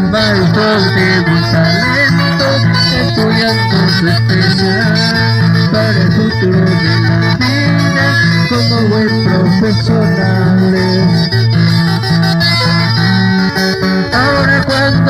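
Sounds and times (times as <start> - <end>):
guitar: 0.0 - 15.0
repeating bass line: 0.0 - 15.0.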